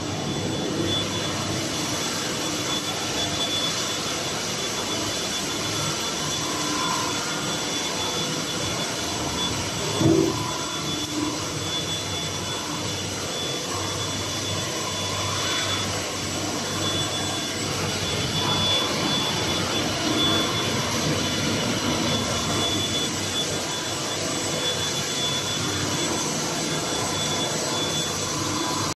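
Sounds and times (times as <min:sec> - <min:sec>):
thin high whine: 0:00.0 - 0:28.9.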